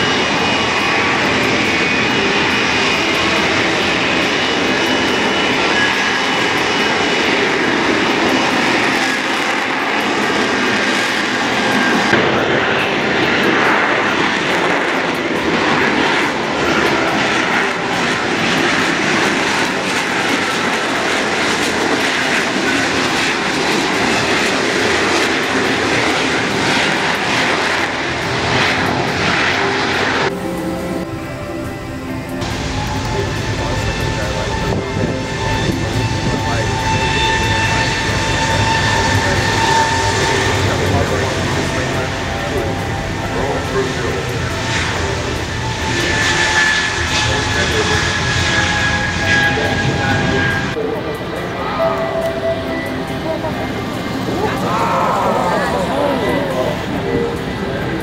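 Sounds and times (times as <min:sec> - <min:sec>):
jet engine roaring: 0:00.0 - 0:58.0.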